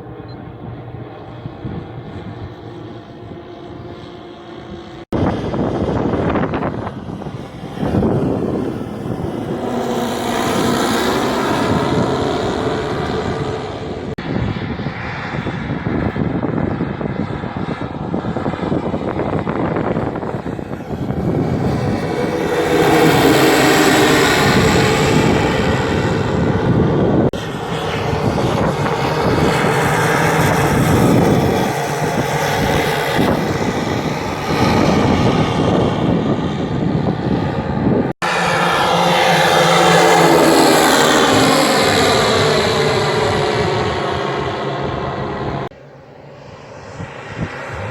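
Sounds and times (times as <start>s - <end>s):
model plane motors and propellers: 0.0s - 47.9s.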